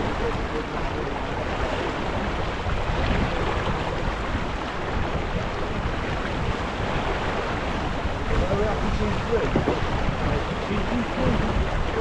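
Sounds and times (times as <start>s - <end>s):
water washing along hull: 0.0s - 12.0s
wind buffeting microphone: 0.0s - 12.0s.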